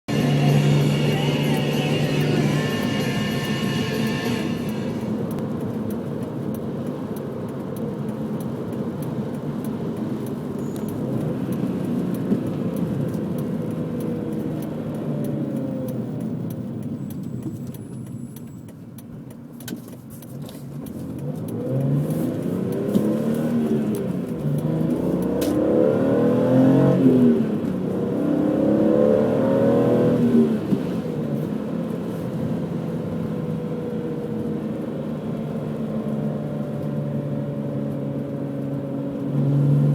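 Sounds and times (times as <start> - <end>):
car engine revving: 0.1 - 17.8, 20.8 - 39.9.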